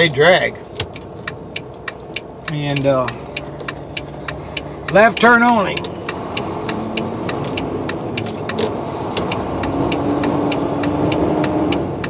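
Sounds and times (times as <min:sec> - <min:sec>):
diesel truck engine running: 0:00.0 - 0:12.0
light steady ticking: 0:00.0 - 0:12.0.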